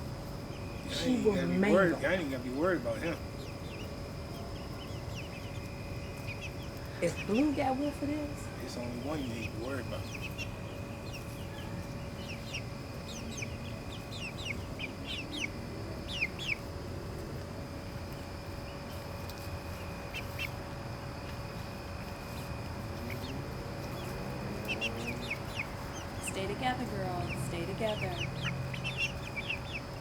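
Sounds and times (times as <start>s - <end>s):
chickens peeping: 0.0s - 30.0s.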